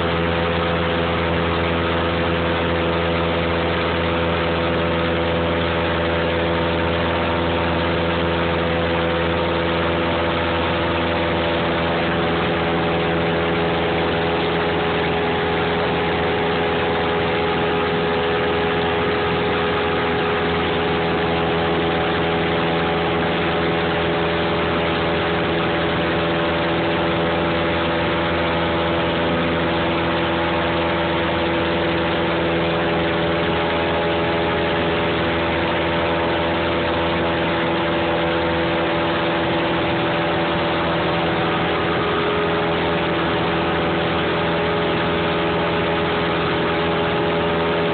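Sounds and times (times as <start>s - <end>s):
aircraft engines droning in cabin: 0.0s - 47.9s.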